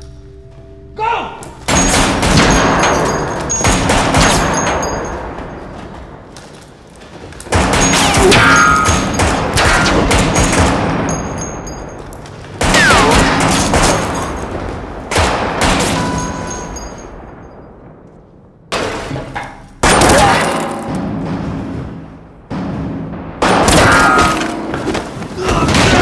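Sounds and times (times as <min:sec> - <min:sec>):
gunshots with echoing tail: 0:01.7 - 0:06.4, 0:07.5 - 0:12.0, 0:12.6 - 0:18.8, 0:19.8 - 0:26.0.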